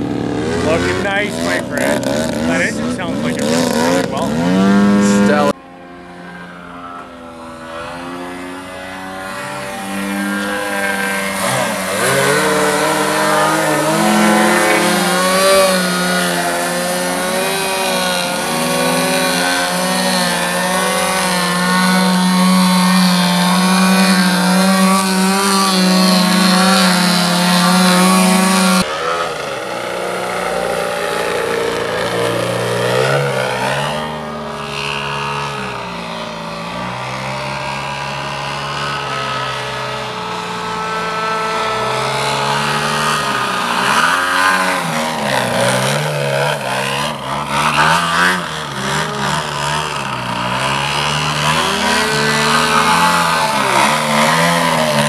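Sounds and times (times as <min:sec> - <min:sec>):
model airplane engine: 0:00.0 - 0:55.0.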